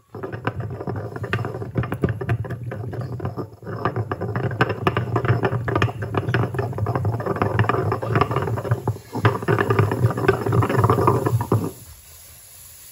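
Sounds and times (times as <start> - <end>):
pestle pounding in mortar: 0.0 - 11.8.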